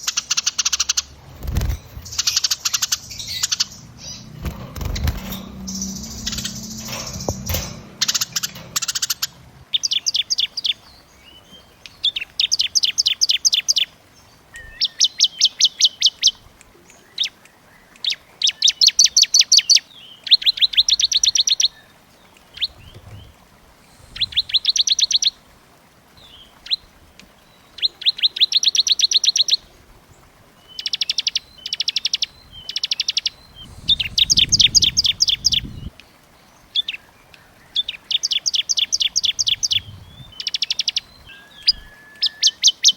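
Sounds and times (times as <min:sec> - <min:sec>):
songbird rapid trill song: 0:00.0 - 0:23.4, 0:30.6 - 0:42.9.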